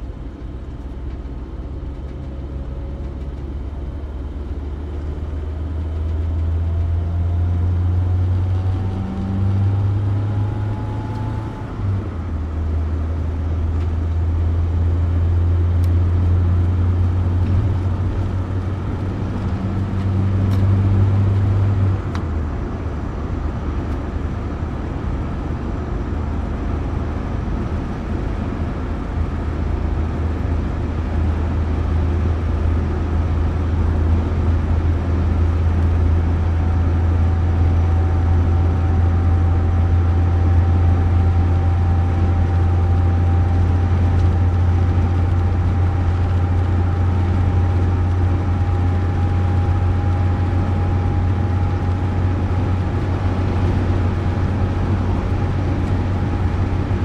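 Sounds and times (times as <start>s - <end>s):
car engine and road noise drone: 0.0s - 57.0s.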